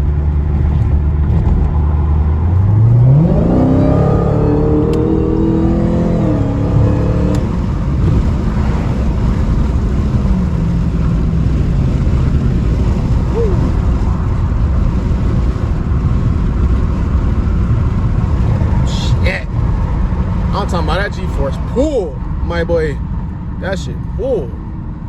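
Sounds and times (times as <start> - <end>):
car engine at full throttle: 0.0 - 25.0
road and wind noise: 0.0 - 25.0.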